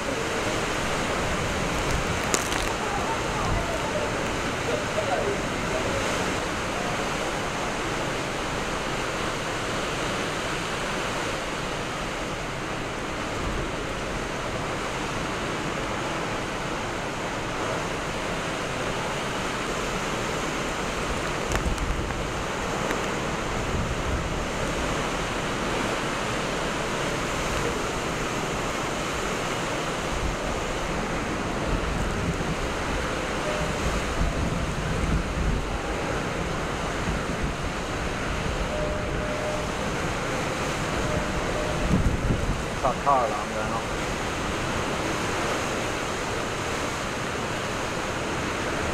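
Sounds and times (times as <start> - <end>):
heavy rain: 0.0 - 48.9
strong wind: 0.0 - 48.9
wind buffeting microphone: 0.0 - 48.9.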